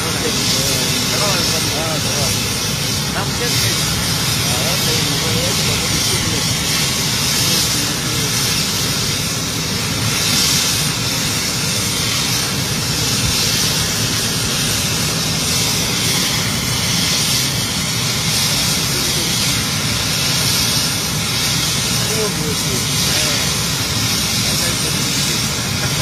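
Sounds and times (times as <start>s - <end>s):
helicopter rotor beat: 0.0s - 26.0s
helicopter turbine hiss: 0.0s - 26.0s.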